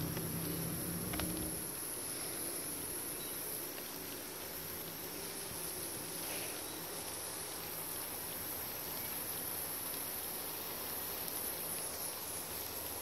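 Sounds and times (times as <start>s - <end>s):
water spraying from hose: 0.0s - 13.0s.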